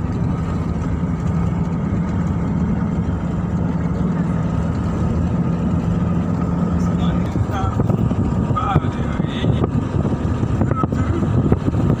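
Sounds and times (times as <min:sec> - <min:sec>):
car interior road drone: 0:00.0 - 0:12.0.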